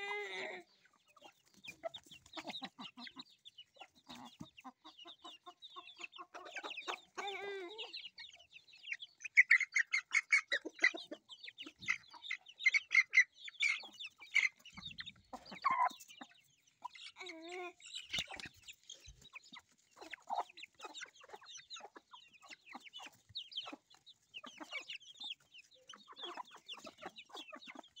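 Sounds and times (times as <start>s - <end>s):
chickens clucking: 0.0s - 28.0s
chicks peeping: 0.0s - 28.0s.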